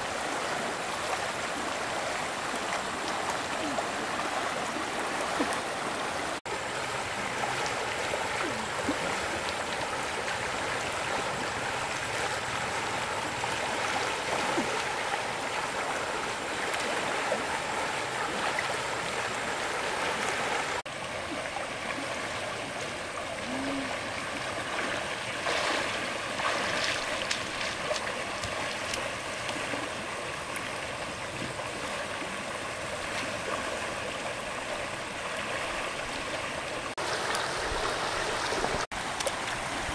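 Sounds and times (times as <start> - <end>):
stream water rushing and trickling: 0.0 - 39.9.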